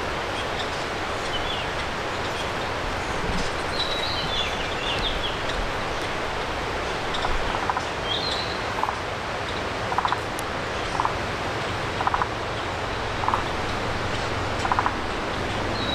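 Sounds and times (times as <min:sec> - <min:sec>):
stream water flowing: 0:00.0 - 0:15.9.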